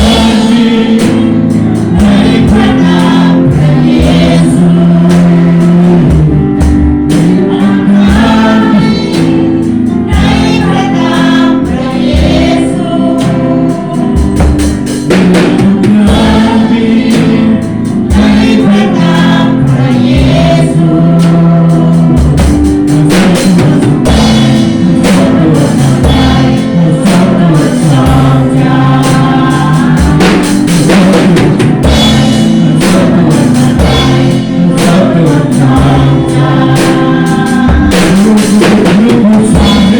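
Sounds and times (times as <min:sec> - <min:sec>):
band with drums and bass: 0:00.0 - 0:39.9
group of voices singing: 0:00.0 - 0:39.9.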